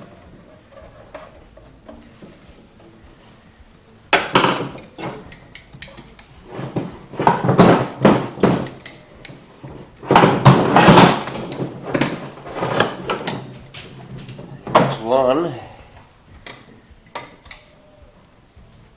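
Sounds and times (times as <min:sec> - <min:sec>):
scraping knocking and clatter of parts: 0:00.0 - 0:18.9.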